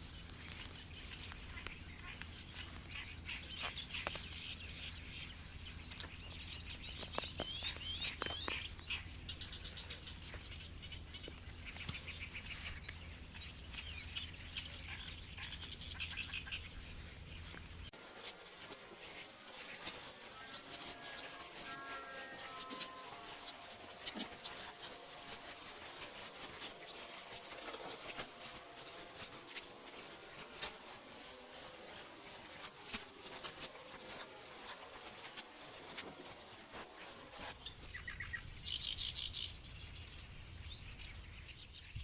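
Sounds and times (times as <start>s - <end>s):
small birds chirping and trilling: 0.0s - 42.0s.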